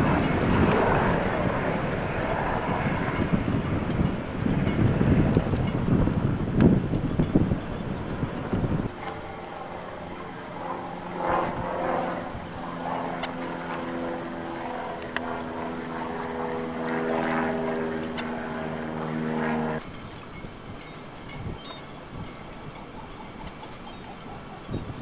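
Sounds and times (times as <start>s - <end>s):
propeller airplane droning overhead: 0.0s - 25.0s.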